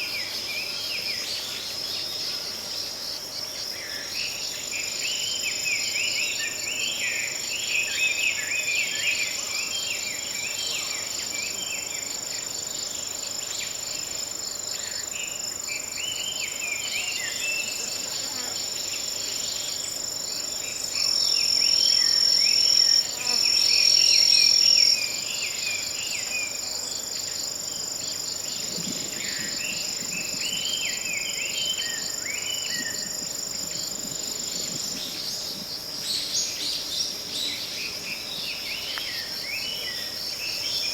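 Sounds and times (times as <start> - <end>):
insects trilling: 0.0 - 40.9
loud insect trill: 0.0 - 40.9.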